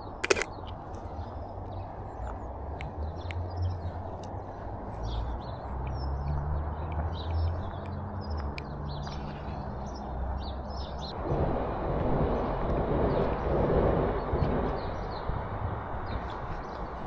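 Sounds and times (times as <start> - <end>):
birds chirping: 0.0 - 11.6, 12.2 - 17.0.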